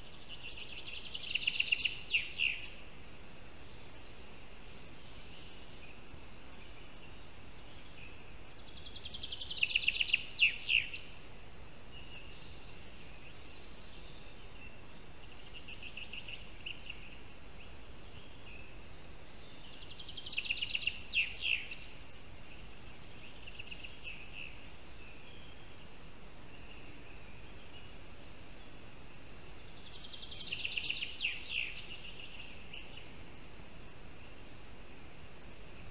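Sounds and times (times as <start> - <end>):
songbird singing: 0.0 - 35.9.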